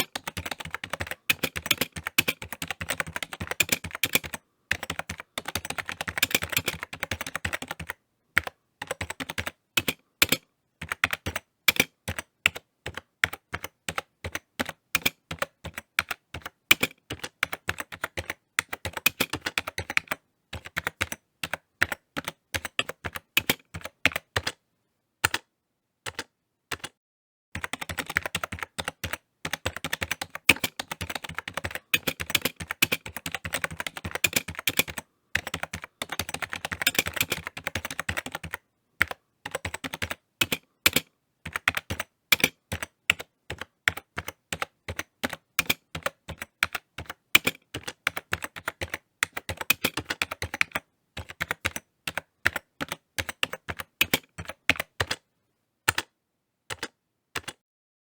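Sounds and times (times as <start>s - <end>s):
typing on computer keyboard: 0.0s - 24.6s, 25.2s - 25.5s, 26.1s - 27.0s, 27.6s - 55.2s, 55.9s - 57.6s.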